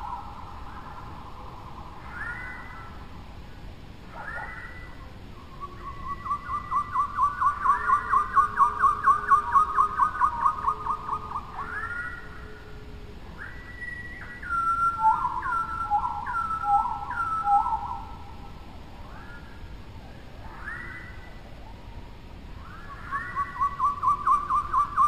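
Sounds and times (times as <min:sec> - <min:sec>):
bird singing whistled notes: 0:00.0 - 0:03.1, 0:04.1 - 0:18.4, 0:19.0 - 0:19.7, 0:20.4 - 0:21.8, 0:22.6 - 0:25.0.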